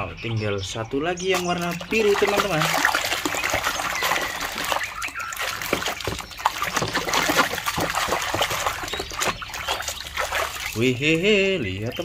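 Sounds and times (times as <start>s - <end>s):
water splashing and trickling: 0.7s - 12.0s.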